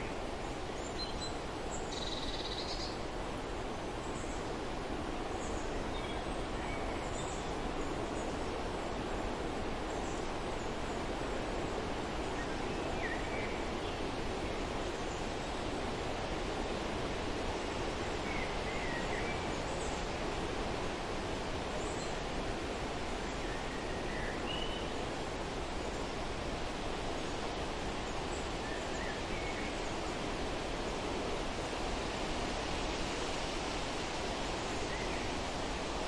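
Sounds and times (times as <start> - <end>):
wind rustling leaves: 0.0 - 36.0.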